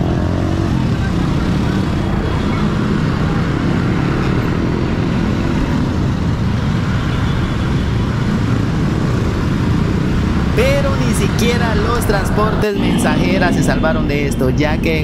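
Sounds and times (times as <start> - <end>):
motorcycles and scooters running: 0.0 - 15.0.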